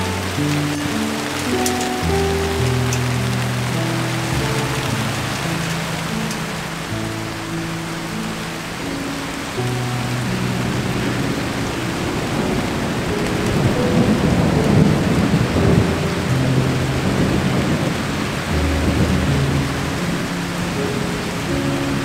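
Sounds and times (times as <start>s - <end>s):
rain falling on foliage: 0.0s - 22.0s
soft background music: 0.0s - 22.0s
thunder rumbling: 0.0s - 22.0s.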